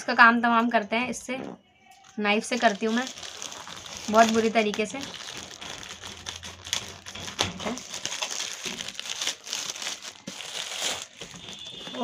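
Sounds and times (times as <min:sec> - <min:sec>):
plastic mailer crinkling: 0:02.0 - 0:12.0
sharp crackles: 0:02.0 - 0:12.0.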